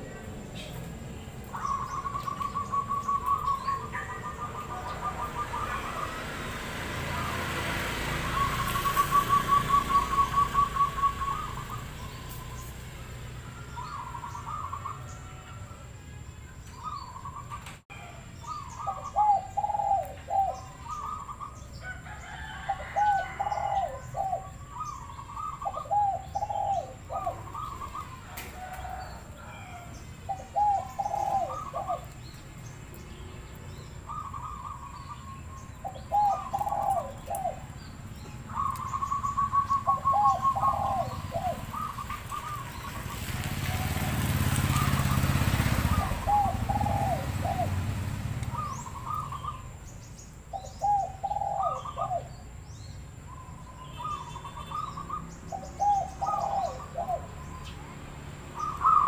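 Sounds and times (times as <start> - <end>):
dove cooing: 0.0 - 16.0, 16.7 - 32.4, 33.7 - 49.8, 50.5 - 52.5, 53.3 - 57.7, 58.5 - 59.0.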